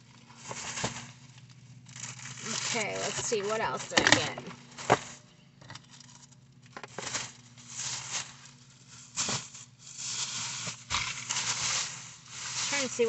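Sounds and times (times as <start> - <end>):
plastic bags rustling: 0.0 - 5.9, 6.8 - 13.0.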